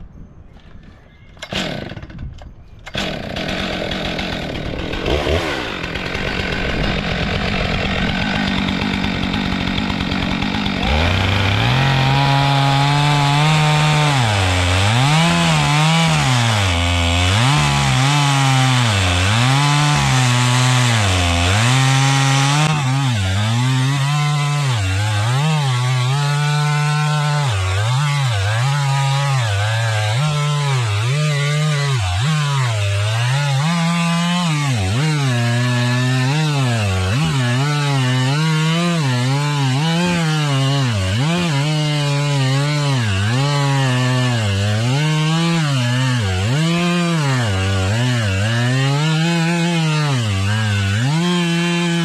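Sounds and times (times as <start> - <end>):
chainsaw cutting wood: 1.4 - 52.0.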